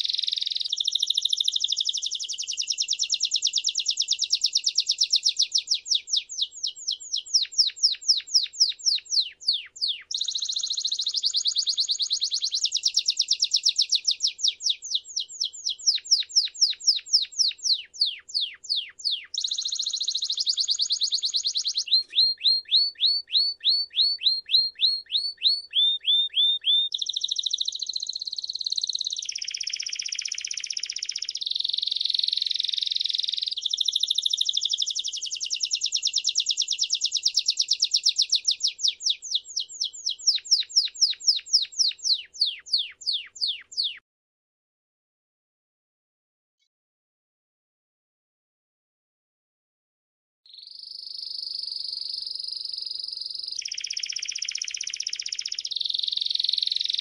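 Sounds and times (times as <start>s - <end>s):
canary singing trills: 0.0s - 44.0s, 50.5s - 57.0s.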